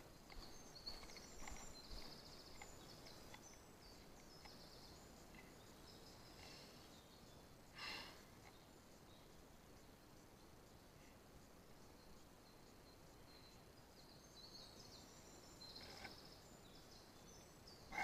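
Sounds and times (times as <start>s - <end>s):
faint distant birdsong: 0.0s - 18.0s.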